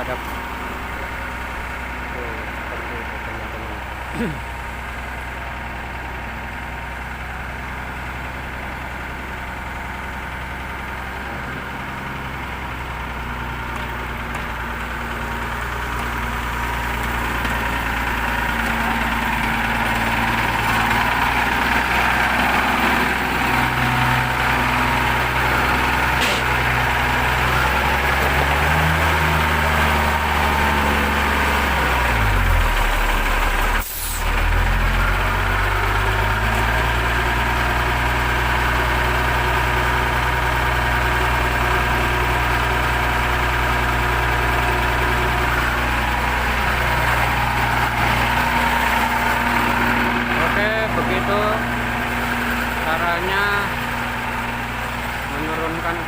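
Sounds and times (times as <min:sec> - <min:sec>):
heavy vehicle engine running: 0:00.0 - 0:56.0.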